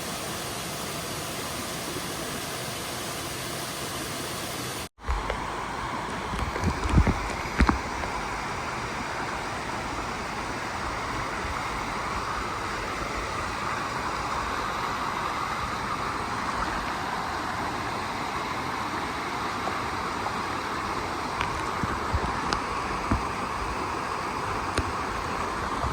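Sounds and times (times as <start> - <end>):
rushing mountain stream: 0.0 - 25.9.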